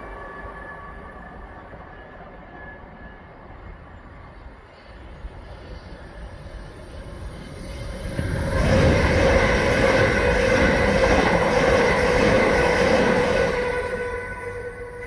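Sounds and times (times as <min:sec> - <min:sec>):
train running past: 0:00.0 - 0:15.0.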